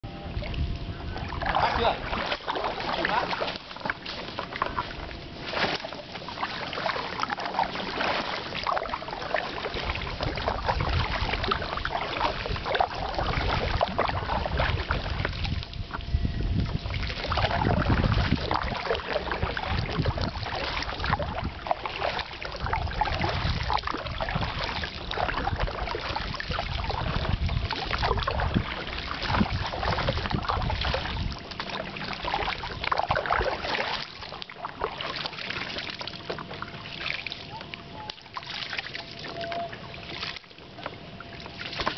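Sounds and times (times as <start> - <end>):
wind rumbling on microphone: 0.0 - 35.2
paddles splashing in water: 0.3 - 41.9.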